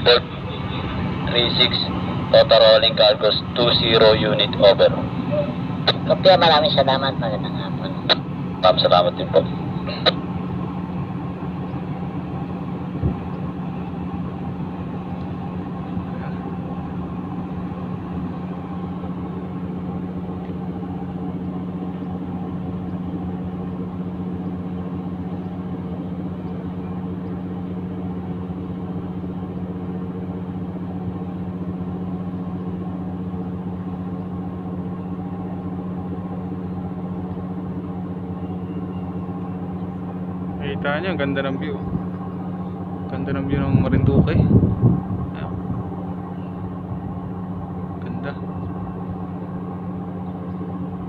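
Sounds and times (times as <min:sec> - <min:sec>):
ferry engines droning: 0:00.0 - 0:51.0.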